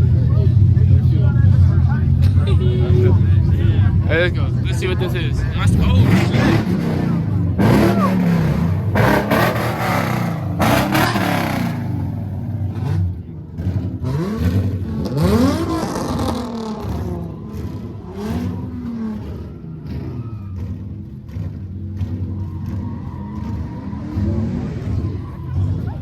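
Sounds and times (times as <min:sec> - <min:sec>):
drone of running engines: 0:00.0 - 0:26.0
car engine revving hard: 0:04.9 - 0:26.0.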